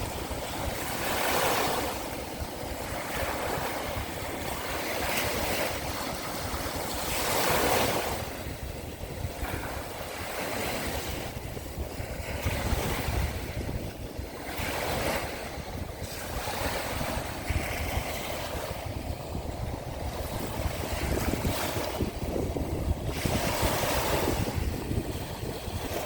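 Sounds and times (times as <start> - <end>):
waves washing onto shore: 0.0 - 26.0
wind rumbling on microphone: 0.0 - 26.0.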